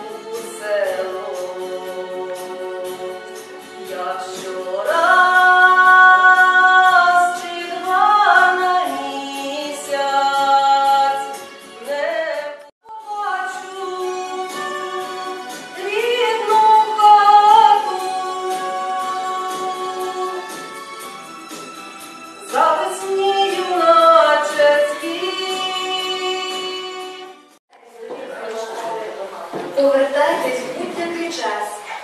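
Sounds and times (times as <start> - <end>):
woman singing: 0.0 - 20.8, 22.4 - 27.4.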